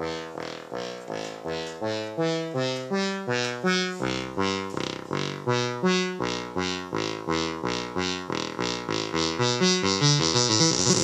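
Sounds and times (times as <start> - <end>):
modular synthesizer random notes: 0.0 - 11.0.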